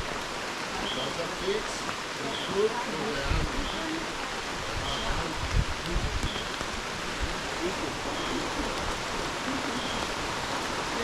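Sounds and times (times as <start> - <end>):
rain on foliage: 0.0 - 11.0.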